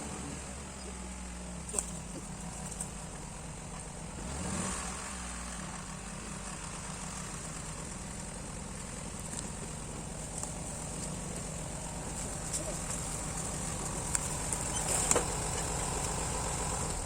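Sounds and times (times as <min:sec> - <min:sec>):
chainsaw engine idling: 0:00.0 - 0:17.0.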